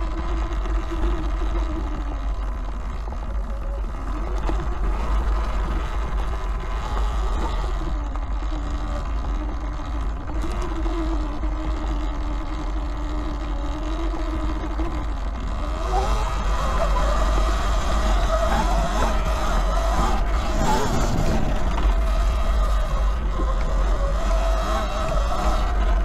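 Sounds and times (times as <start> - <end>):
electric motor whine: 0.0 - 26.0
low rumble and drivetrain noise: 0.0 - 26.0.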